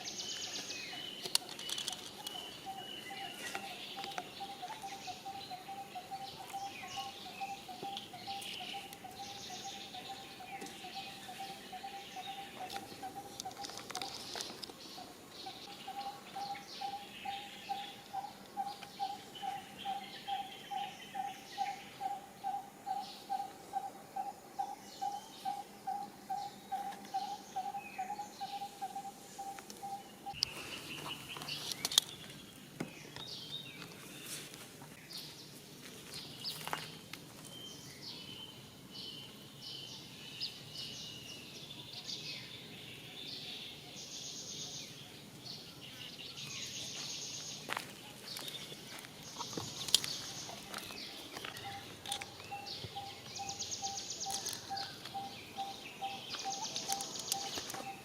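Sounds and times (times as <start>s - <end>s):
bird chirps: 0.0s - 34.4s, 36.3s - 58.0s.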